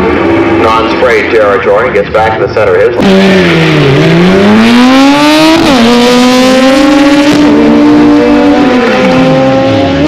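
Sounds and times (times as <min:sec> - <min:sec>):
race car engine accelerating: 0:00.0 - 0:10.0.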